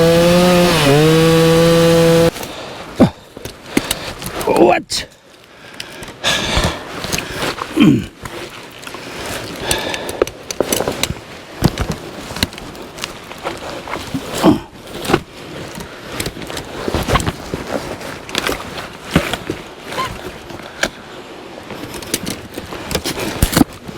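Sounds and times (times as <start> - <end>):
wooden logs knocking and scraping: 0.0 - 4.8, 5.8 - 21.0, 21.7 - 23.9.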